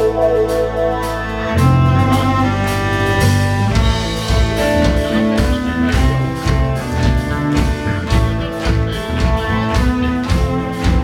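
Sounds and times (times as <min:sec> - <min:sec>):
electric guitars: 0:00.0 - 0:11.0
steady drumbeat: 0:00.0 - 0:11.0
violin: 0:00.0 - 0:11.0.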